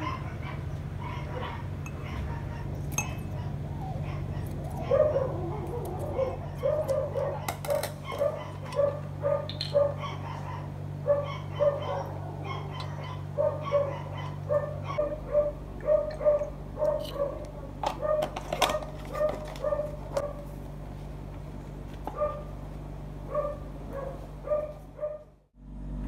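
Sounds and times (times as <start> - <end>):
dog yapping: 0.0 - 20.5, 22.1 - 22.5, 23.3 - 25.3
steady low hum: 0.0 - 26.0.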